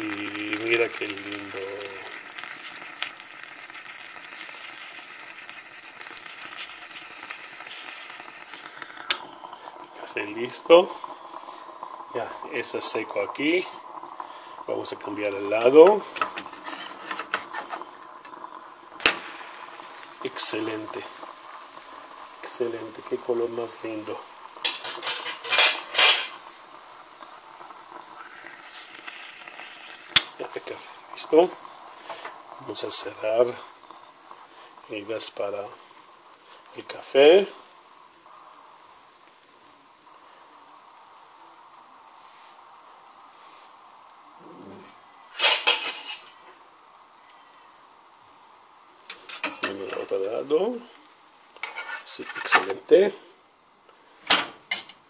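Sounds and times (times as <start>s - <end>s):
short hissing bursts: 0.0s - 54.8s
batter sizzling in a frying pan: 0.0s - 55.0s.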